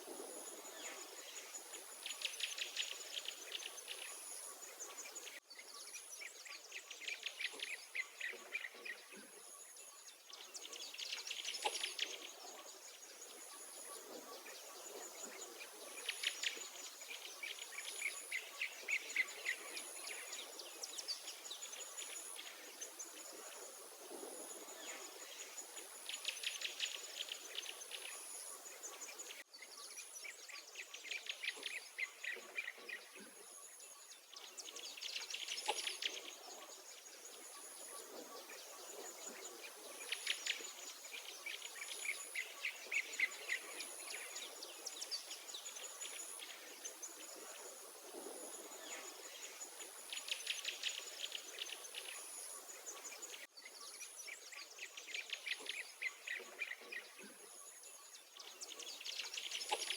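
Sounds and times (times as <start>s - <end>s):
songbirds singing trills: 0.0s - 59.9s.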